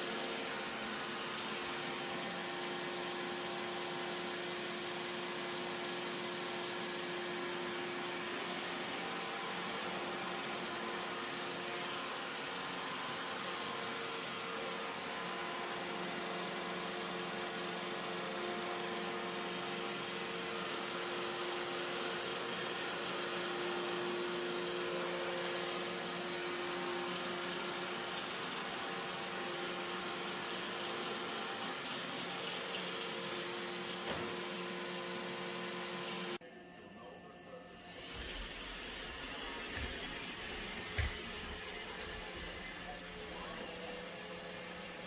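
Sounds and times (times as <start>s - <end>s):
robot vacuum cleaner running: 0.0s - 36.4s, 37.8s - 45.0s.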